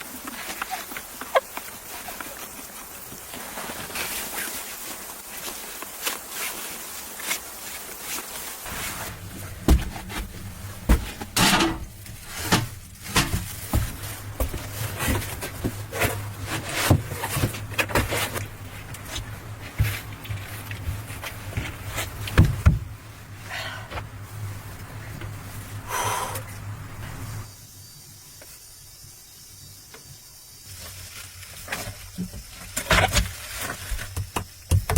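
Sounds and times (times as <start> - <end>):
even hiss: 0.0 - 34.6.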